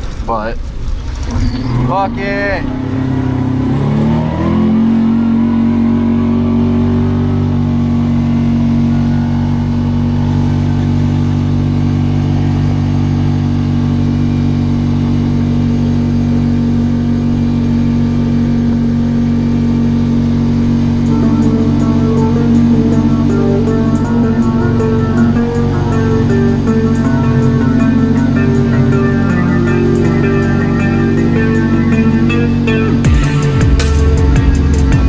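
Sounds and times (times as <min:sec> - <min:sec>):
vehicle engine drone: 0:00.0 - 0:35.0.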